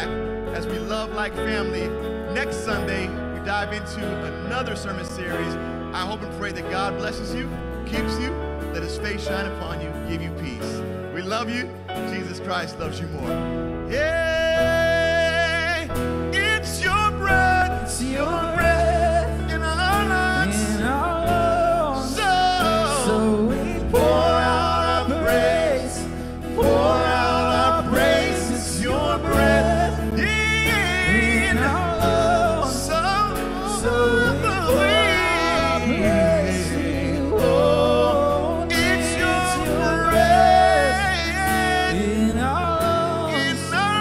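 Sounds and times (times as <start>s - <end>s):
man singing: 0.0s - 11.6s, 12.5s - 44.0s
band playing: 0.0s - 44.0s.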